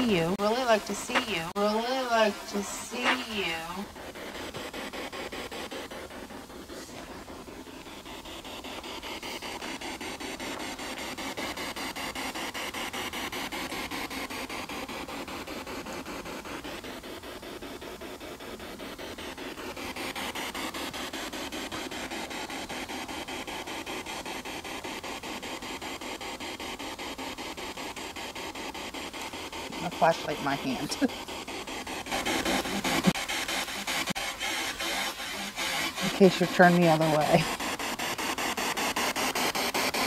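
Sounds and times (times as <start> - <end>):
pulsing radio static: 0.0 - 40.0.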